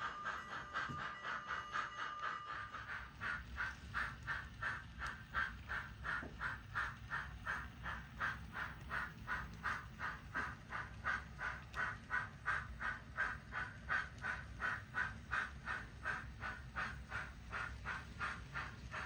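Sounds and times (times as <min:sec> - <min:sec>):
low rumble of model train: 0:00.0 - 0:19.0
steam exhaust chuffs: 0:00.0 - 0:19.0.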